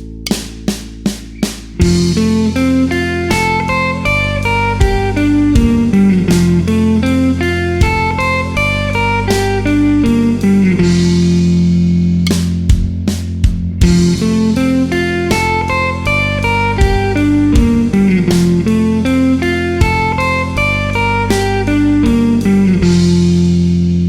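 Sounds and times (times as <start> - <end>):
backing track with bass and drums: 0.0 - 24.0
guitar playing arpeggio runs: 0.0 - 24.0.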